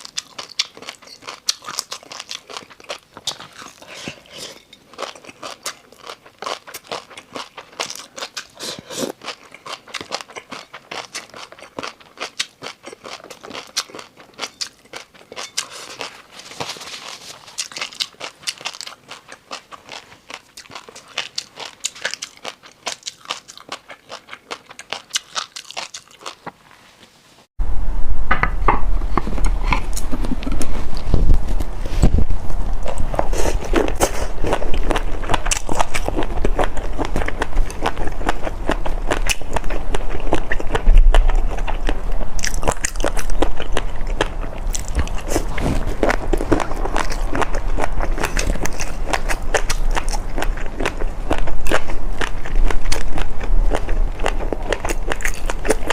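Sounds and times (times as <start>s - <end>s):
person chewing crunchy food: 0.0s - 26.6s, 29.2s - 55.9s.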